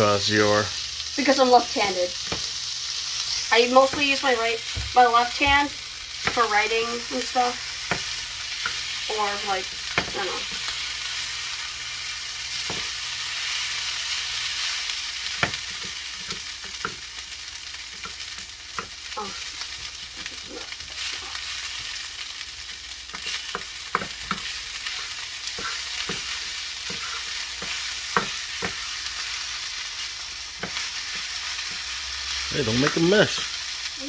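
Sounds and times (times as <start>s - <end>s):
food sizzling in oil: 0.0s - 34.0s.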